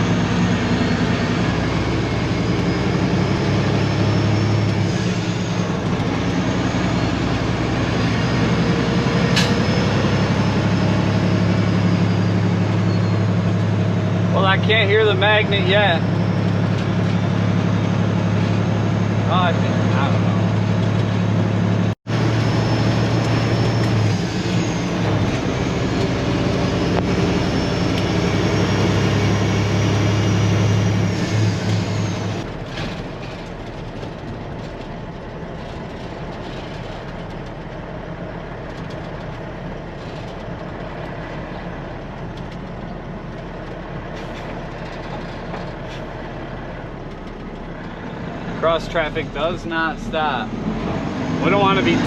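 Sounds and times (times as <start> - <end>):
truck diesel engine droning: 0.0 - 52.0.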